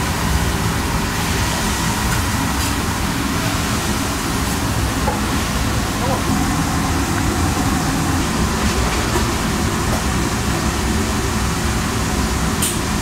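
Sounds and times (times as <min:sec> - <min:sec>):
kitchen machinery humming: 0:00.0 - 0:13.0.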